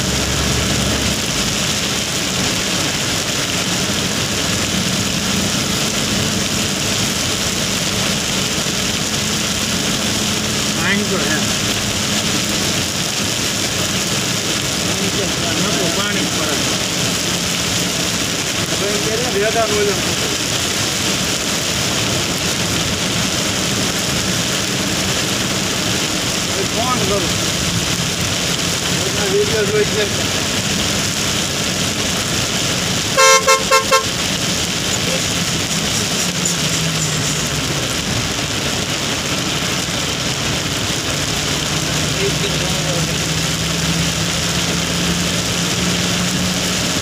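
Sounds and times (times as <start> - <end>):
heavy rain on vehicle: 0.0 - 47.0
vehicle engine running: 0.0 - 47.0.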